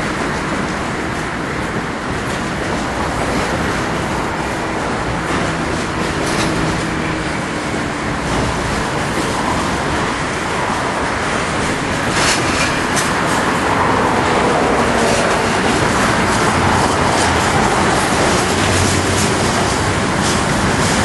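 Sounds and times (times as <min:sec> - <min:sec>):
sharp clicks of rails: 0:00.0 - 0:21.0
train wheels rumbling on rails: 0:00.0 - 0:21.0.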